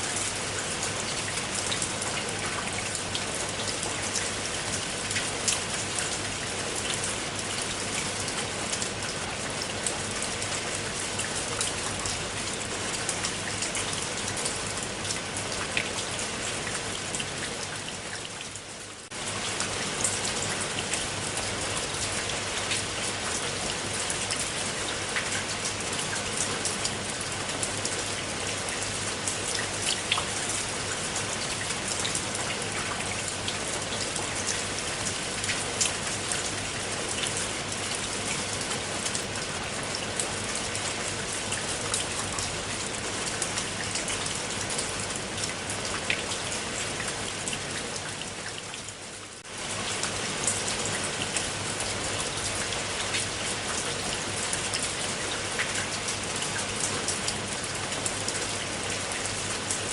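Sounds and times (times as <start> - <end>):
rain falling: 0.0 - 59.9
raindrops striking close by: 0.0 - 59.9.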